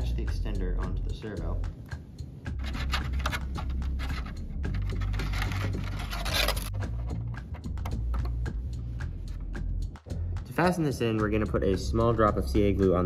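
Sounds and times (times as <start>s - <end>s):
music with deep bass line: 0.0s - 13.0s.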